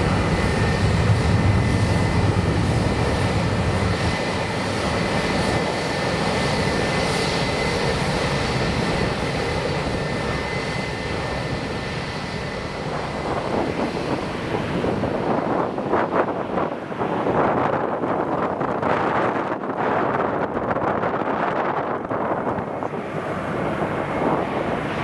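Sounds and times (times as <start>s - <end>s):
jet airliner engines whining: 0.0s - 25.0s
wind buffeting microphone: 0.0s - 25.0s.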